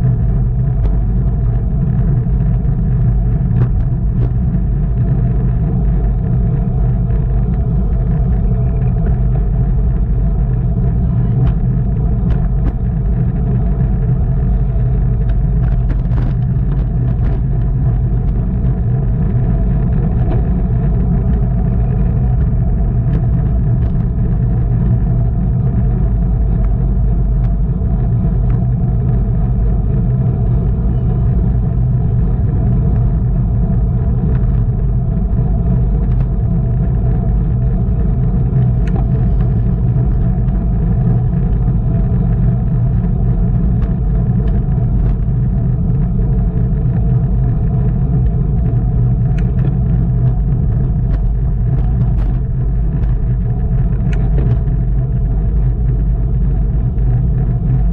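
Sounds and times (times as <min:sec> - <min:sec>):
wind and road noise from bicycle: 0:00.0 - 0:57.9.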